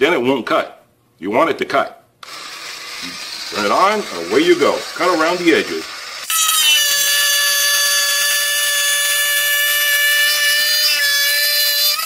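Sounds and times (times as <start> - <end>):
rotary tool cutting plastic: 2.2 - 12.0.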